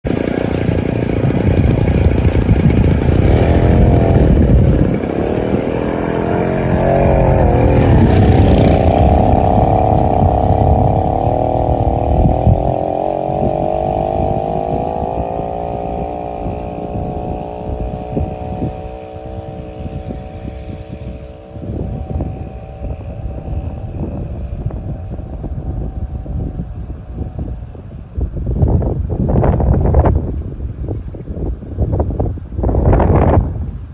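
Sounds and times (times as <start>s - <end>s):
moped engine running: 0.0s - 33.9s.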